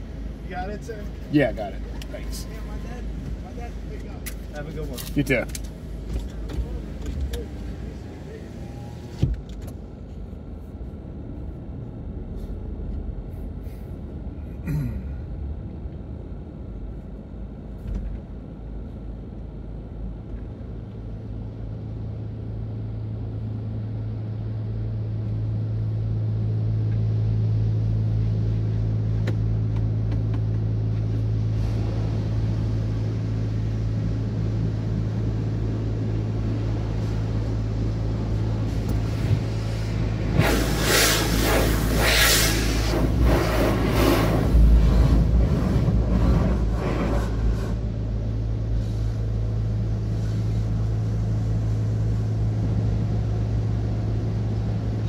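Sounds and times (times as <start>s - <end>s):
car wash rumble: 0.0s - 55.0s
wash machinery humming: 0.0s - 55.0s.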